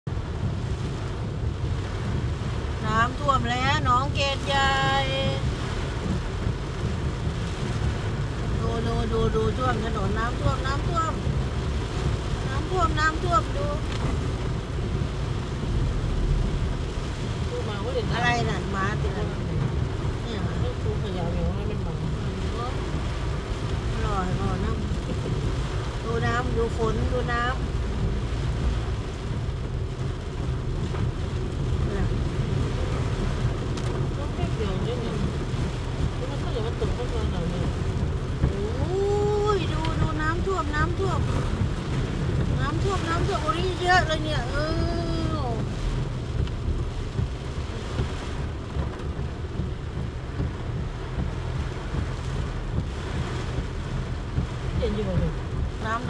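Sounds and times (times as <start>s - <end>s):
heavy rain: 0.0s - 56.0s
low rumble inside car cabin: 0.0s - 56.0s
water spraying around car: 0.1s - 56.0s.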